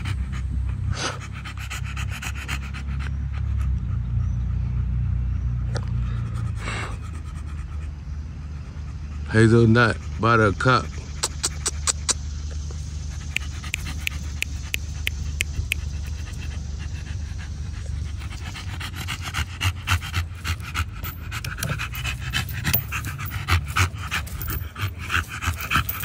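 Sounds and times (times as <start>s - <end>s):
dog panting: 0.0s - 4.2s, 6.0s - 26.0s.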